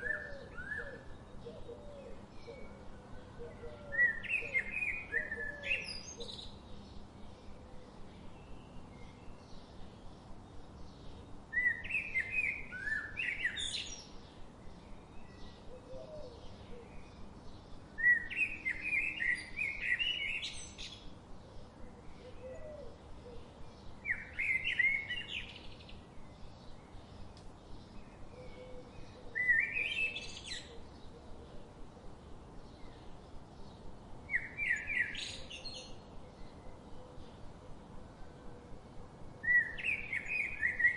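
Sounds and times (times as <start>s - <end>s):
faint chirps of other birds: 0.0s - 40.9s
songbird chirps and trills: 0.0s - 40.9s.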